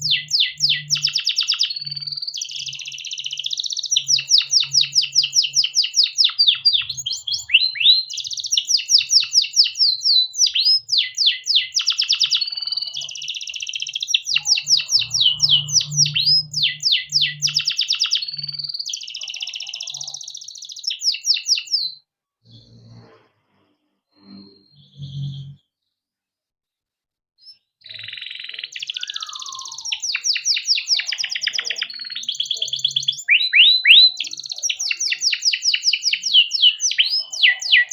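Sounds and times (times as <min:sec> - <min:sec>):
canary singing: 0:00.0 - 0:23.0, 0:24.4 - 0:25.6, 0:27.4 - 0:37.9.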